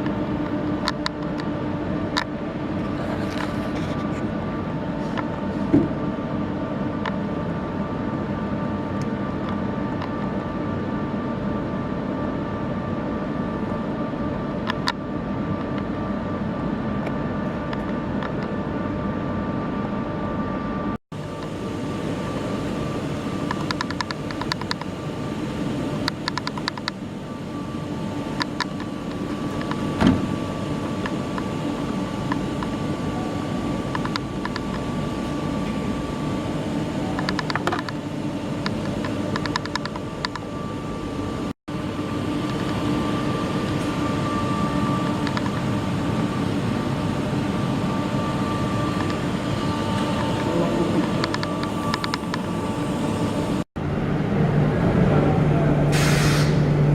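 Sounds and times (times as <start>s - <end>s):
faint steady whine: 0.0s - 55.6s
mechanical hum: 0.0s - 56.9s.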